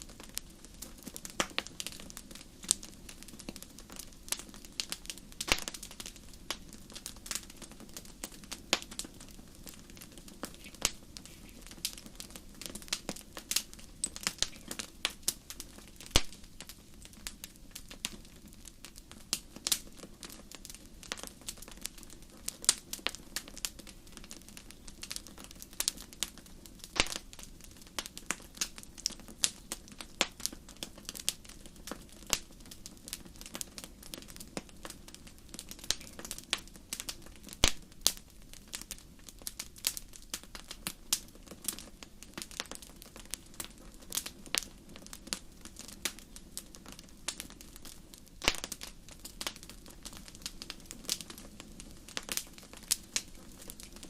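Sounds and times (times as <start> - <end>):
soft low hiss: 0.0 - 54.0
wood fire crackling and popping: 0.0 - 54.0.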